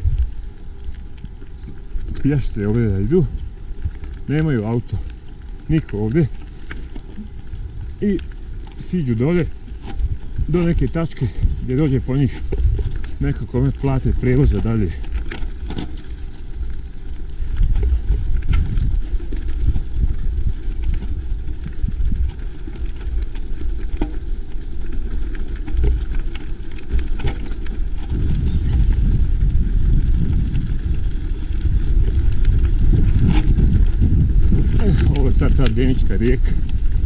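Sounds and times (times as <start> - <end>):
mountain bike rattling: 0.0 - 37.0
wind rumble on microphone: 0.0 - 37.0.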